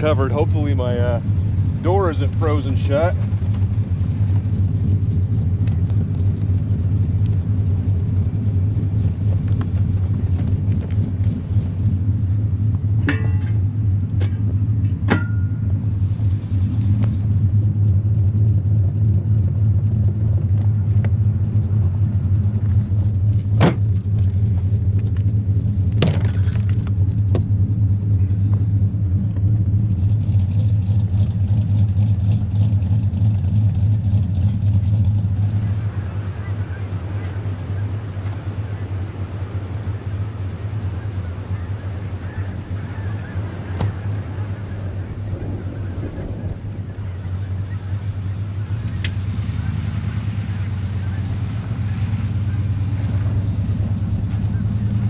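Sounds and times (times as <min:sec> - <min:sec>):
pickup engine running: 0:00.0 - 0:55.0.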